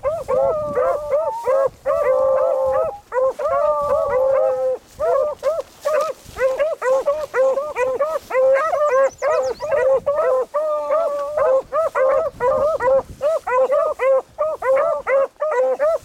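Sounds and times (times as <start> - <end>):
dogs baying and barking: 0.0 - 16.0.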